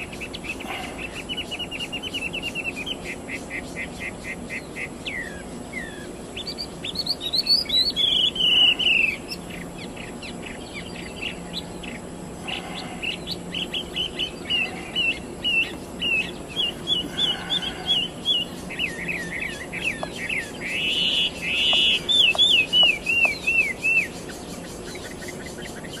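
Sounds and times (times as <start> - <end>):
songbird whistling: 0.0 - 12.0, 12.8 - 26.0.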